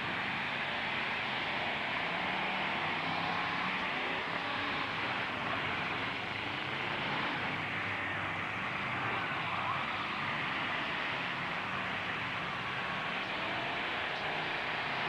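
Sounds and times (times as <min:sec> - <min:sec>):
truck engines running: 0:00.0 - 0:15.0.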